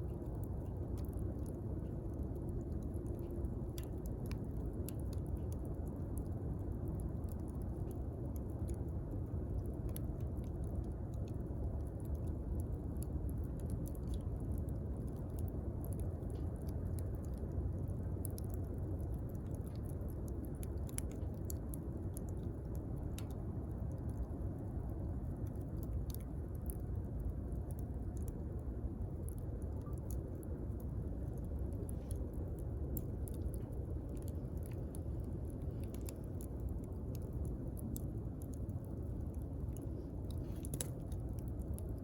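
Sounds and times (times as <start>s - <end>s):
campfire burning: 0.0s - 42.0s
fire crackling and popping: 0.0s - 42.0s.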